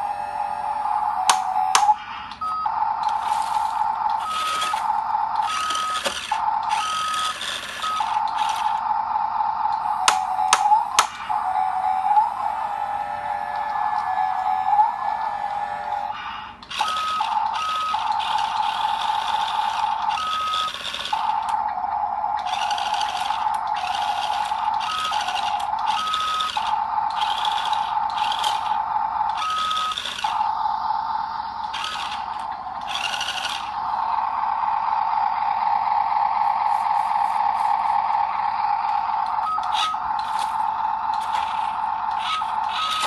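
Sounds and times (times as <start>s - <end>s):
high-pitched whine: 0.0s - 43.0s
toy truck motors whirring: 0.0s - 43.0s.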